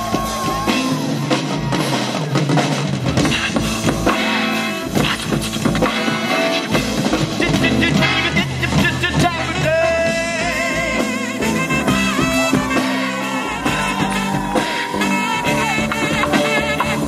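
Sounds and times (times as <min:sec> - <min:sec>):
swing band playing: 0:00.0 - 0:17.0.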